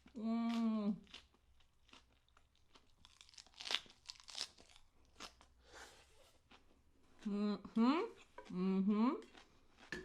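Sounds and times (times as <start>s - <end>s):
person chewing crunchy food: 0.0s - 7.3s, 9.2s - 10.0s.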